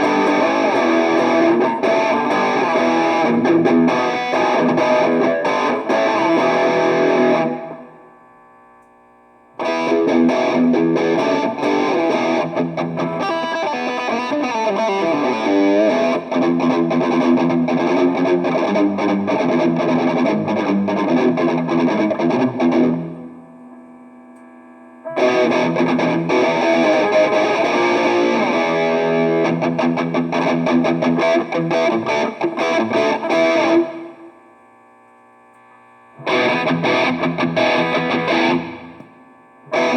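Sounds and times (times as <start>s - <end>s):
distorted electric guitar riffing: 0.0s - 8.1s, 9.6s - 34.4s, 36.2s - 39.9s
faint amp hum: 0.0s - 39.9s.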